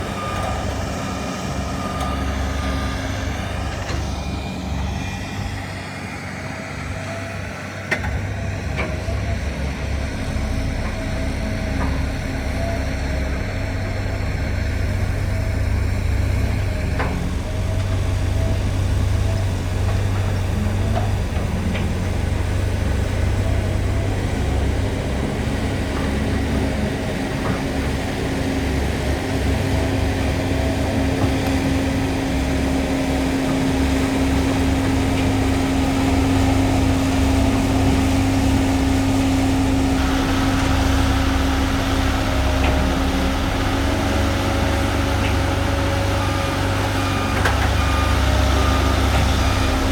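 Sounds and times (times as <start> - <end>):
heavy machinery diesel engines: 0.0 - 49.9.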